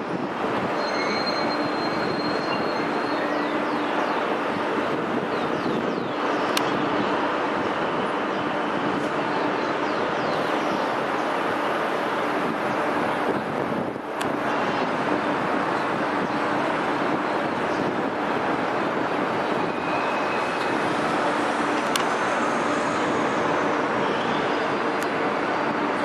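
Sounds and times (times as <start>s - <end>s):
city traffic and port activity: 0.0s - 26.0s.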